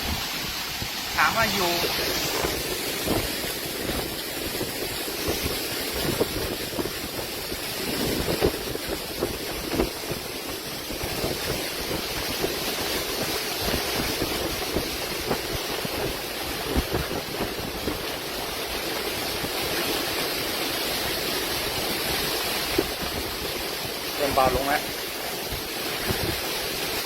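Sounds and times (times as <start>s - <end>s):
storm wind gusting: 0.0s - 24.2s, 24.9s - 27.0s
heavy rain: 0.0s - 27.0s
wind buffeting microphone: 0.0s - 27.0s.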